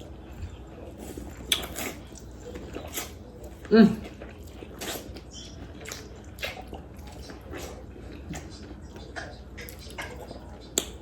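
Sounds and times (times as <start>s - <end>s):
wet chewing mouth sounds: 0.0s - 11.0s.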